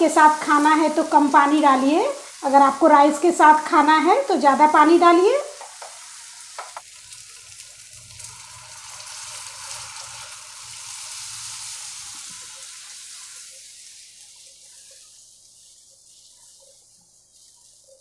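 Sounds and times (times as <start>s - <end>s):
water sizzling in hot pan: 0.0s - 18.0s.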